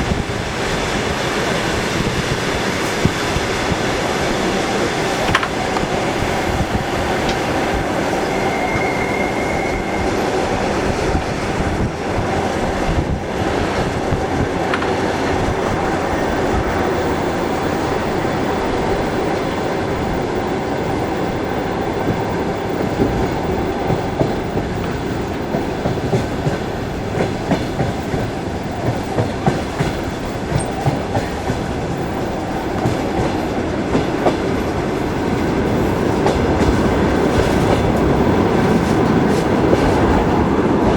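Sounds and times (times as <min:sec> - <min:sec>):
clickety-clack of rail joints: 0:00.0 - 0:40.9
train wheels rumbling on track: 0:00.0 - 0:40.9.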